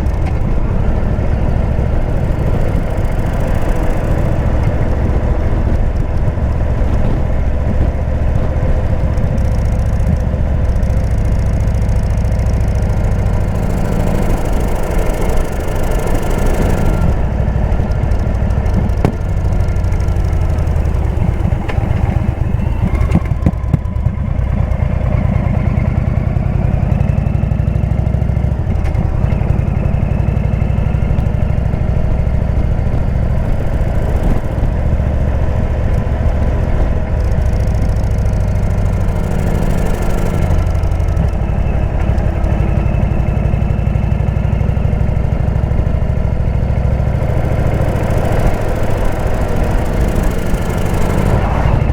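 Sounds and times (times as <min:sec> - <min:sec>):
motorcycle engine rumbling: 0:00.0 - 0:51.9.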